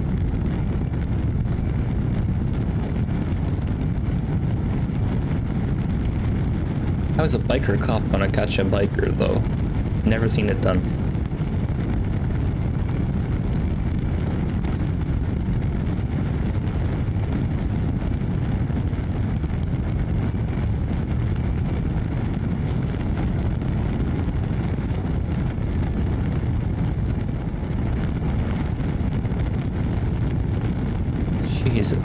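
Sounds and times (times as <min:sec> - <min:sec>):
wind rush: 0:00.0 - 0:32.0.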